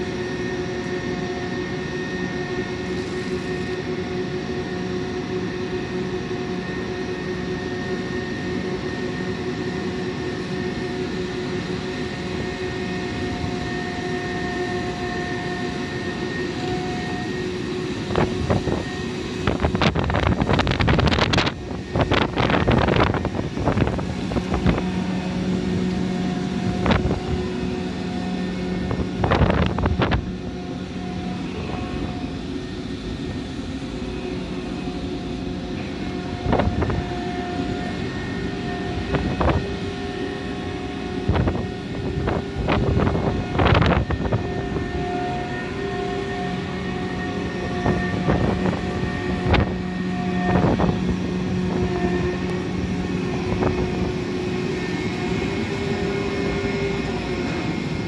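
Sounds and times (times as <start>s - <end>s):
heavy machinery drone: 0.0s - 58.0s.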